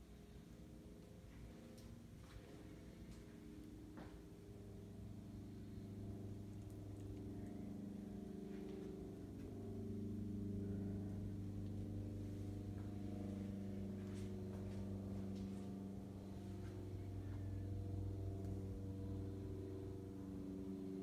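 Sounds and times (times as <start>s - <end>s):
faint machine hum: 0.0s - 21.0s.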